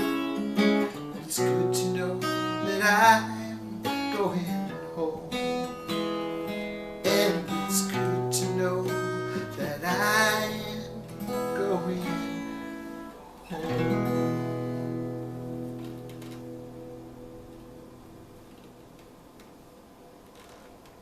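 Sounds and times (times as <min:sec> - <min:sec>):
acoustic guitar strumming chords: 0:00.0 - 0:19.2.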